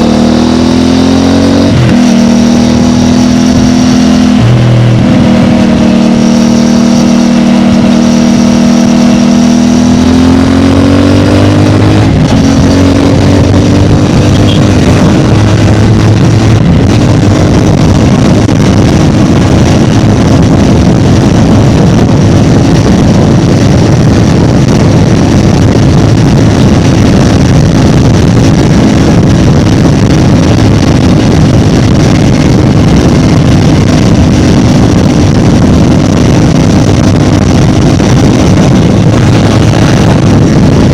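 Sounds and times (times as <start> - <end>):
loud rushing noise: 0.0 - 40.9
motorcycle engine accelerating: 0.0 - 40.9.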